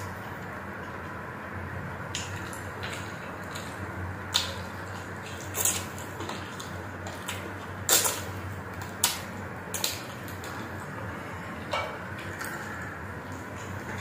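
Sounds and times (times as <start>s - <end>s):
steady low hum: 0.0s - 14.0s
man chewing food: 1.9s - 14.0s.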